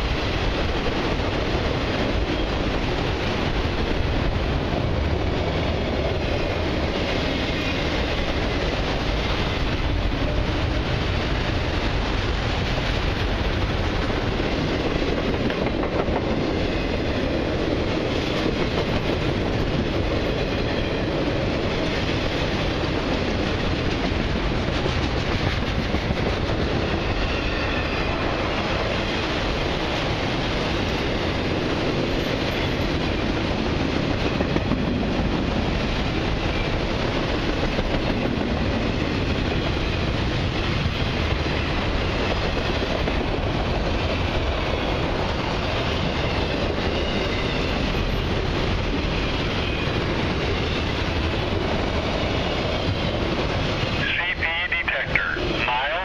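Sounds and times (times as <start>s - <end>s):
freight train wheels clattering on rails: 0.0s - 54.0s.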